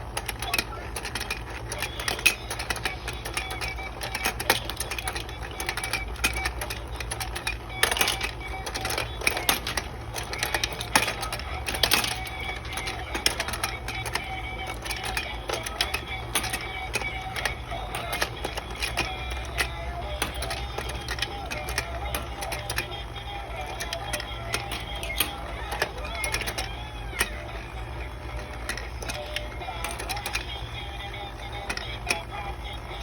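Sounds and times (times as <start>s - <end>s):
rapid plastic clicking and rattling: 0.0s - 33.0s
small motor whirring: 0.0s - 33.0s.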